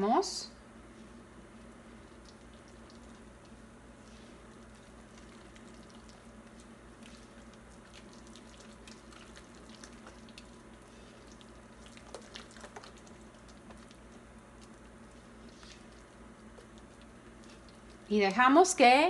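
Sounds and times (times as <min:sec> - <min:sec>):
low steady hum: 0:00.0 - 0:19.0
batter squishing: 0:00.9 - 0:18.6.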